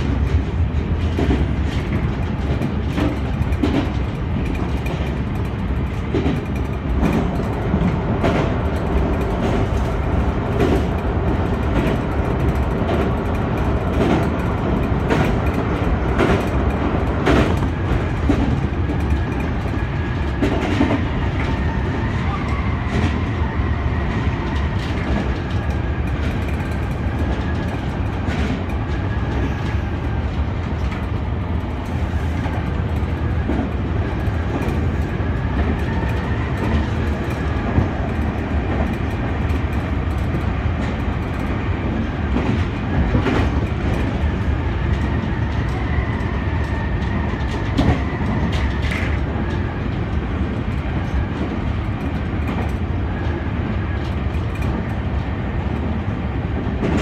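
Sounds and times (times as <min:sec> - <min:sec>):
clickety-clack at rail joints: 0:00.0 - 0:57.0
train wheels rumbling on rail: 0:00.0 - 0:57.0.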